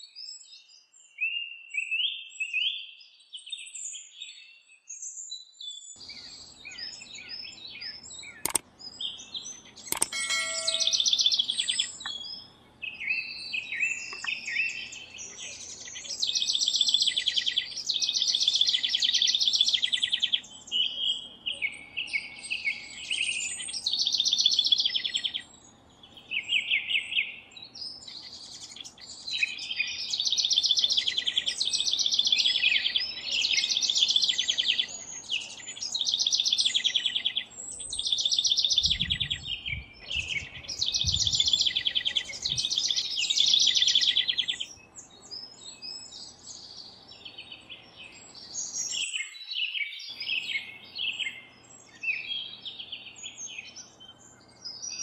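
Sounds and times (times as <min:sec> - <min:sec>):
wren singing: 0:06.0 - 0:55.0.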